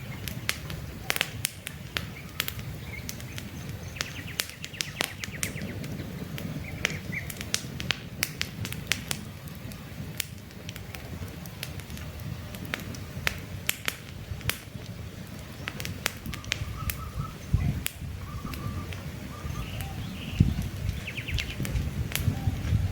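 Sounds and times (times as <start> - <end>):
birds chirping: 0.0 - 22.9
campfire crackling: 0.0 - 22.9.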